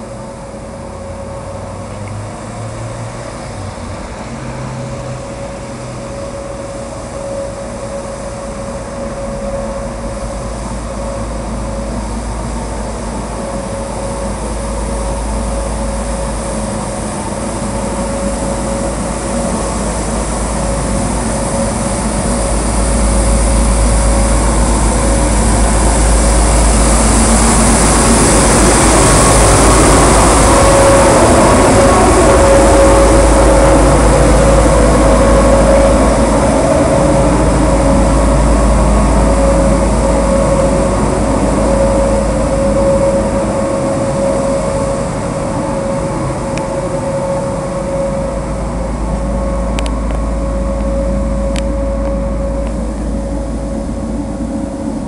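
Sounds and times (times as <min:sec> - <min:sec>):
steady machine whine: 0:00.0 - 0:55.0
street sweeper machinery running: 0:00.0 - 0:55.0.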